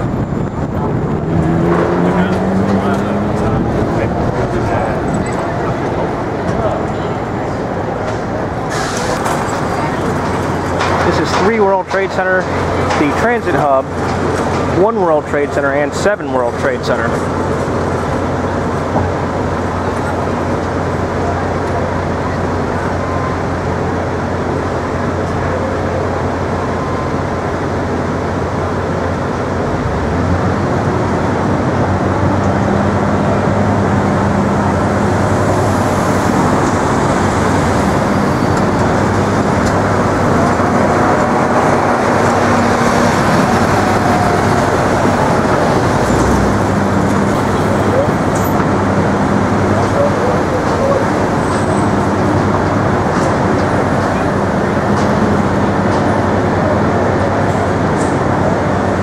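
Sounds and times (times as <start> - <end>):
city traffic noise: 0.0 - 59.0.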